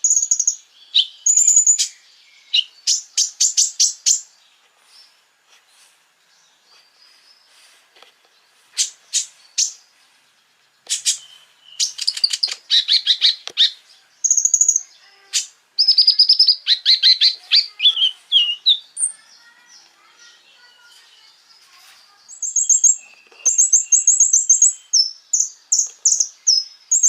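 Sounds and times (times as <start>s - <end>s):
songbird chirping and trilling: 0.0s - 27.0s.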